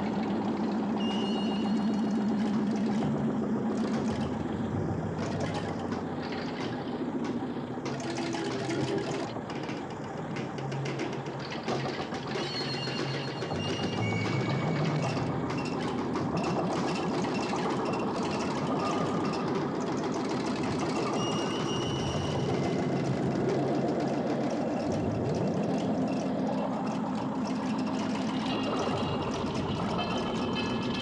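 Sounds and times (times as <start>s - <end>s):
pump jack chugging: 0.0s - 31.0s.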